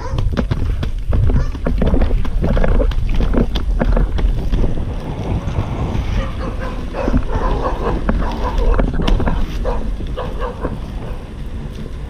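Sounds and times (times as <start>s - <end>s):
skate wheels rolling on asphalt: 0.0s - 12.0s
wind buffeting microphone: 0.0s - 12.0s.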